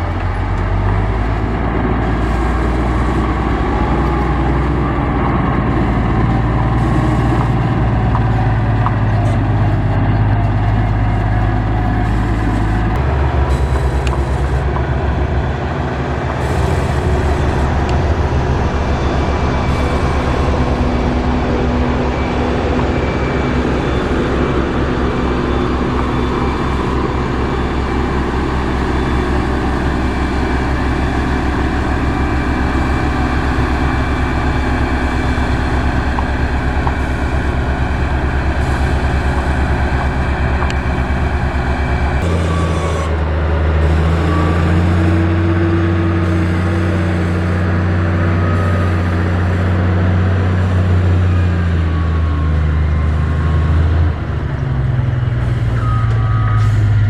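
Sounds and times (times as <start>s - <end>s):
deeper engine note: 0.0s - 57.0s
heavy machinery diesel engine: 0.0s - 57.0s.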